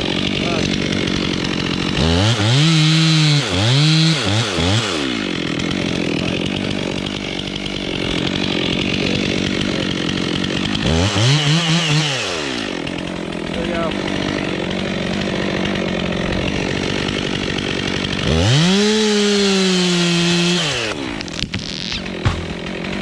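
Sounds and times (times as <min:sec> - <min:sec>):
chainsaw idling: 0:00.0 - 0:23.0
chainsaw revving: 0:00.0 - 0:23.0.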